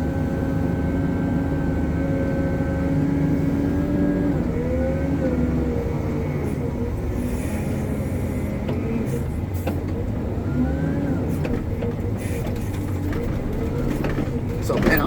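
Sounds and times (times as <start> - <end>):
wheel loader diesel engine: 0.0 - 15.0.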